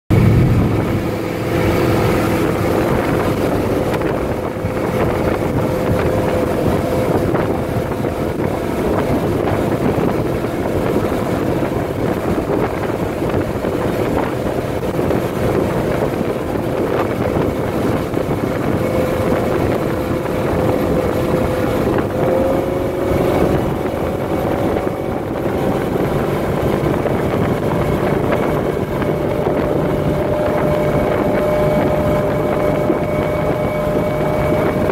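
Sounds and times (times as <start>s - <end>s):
boat engine running: 0.1s - 34.9s
hull rushing through water: 0.1s - 34.9s
wind on microphone: 0.1s - 34.9s.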